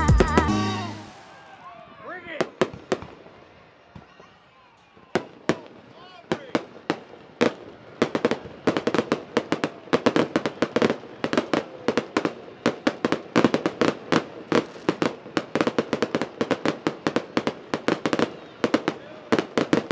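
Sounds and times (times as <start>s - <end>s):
fireworks bangs and crackling: 0.0s - 4.3s, 5.0s - 19.9s.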